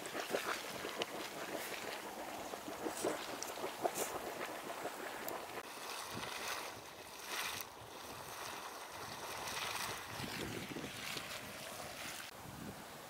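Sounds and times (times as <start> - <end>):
geyser spouting and splashing: 0.0 - 12.4.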